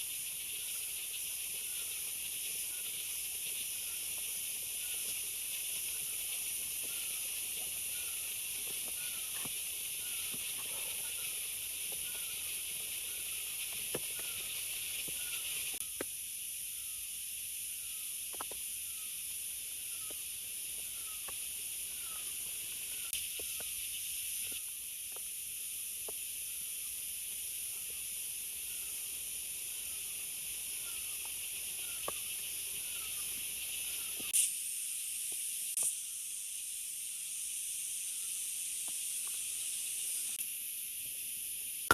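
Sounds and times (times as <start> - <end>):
forest ambience hiss: 0.0 - 41.9.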